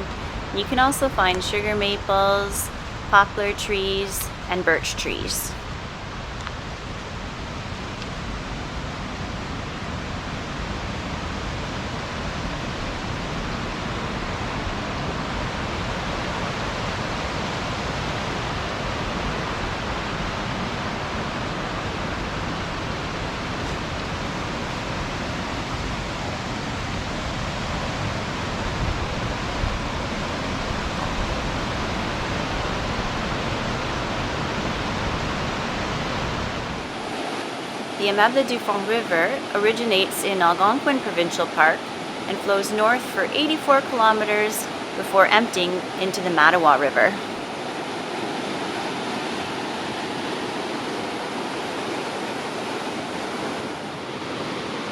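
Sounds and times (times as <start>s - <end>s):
rapids and waterfalls rushing: 0.0s - 54.9s.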